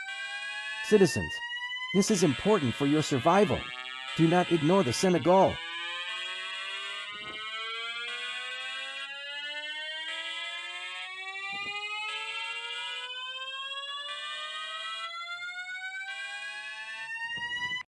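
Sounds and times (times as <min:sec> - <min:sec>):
rising alarm tone: 0:00.0 - 0:17.9.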